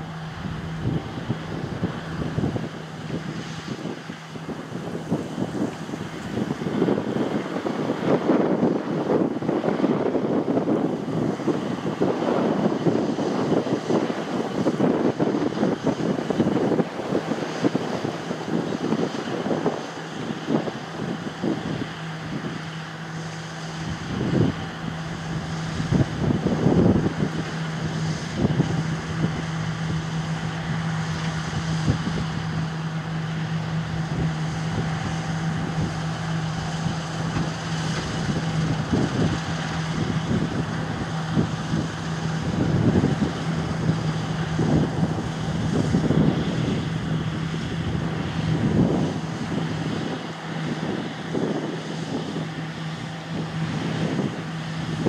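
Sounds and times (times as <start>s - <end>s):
diesel engine running: 0.0s - 55.0s
wind buffeting microphone: 0.0s - 55.0s.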